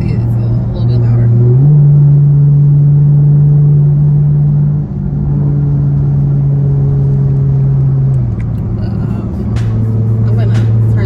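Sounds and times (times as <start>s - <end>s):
car engine droning in cabin: 0.0s - 11.0s.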